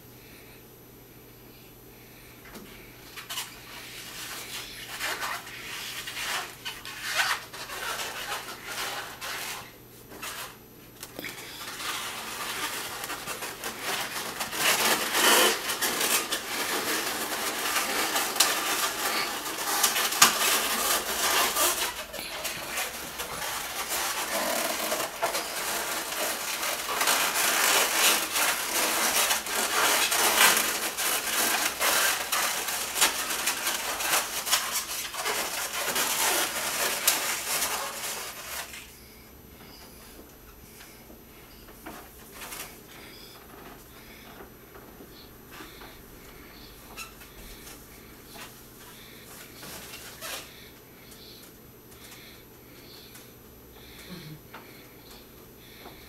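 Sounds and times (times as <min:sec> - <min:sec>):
balloons rubbing together: 0:03.1 - 0:51.4.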